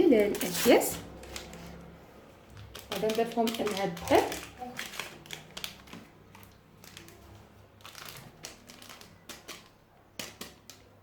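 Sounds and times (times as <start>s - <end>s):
paper packets crinkling: 0.0s - 11.0s.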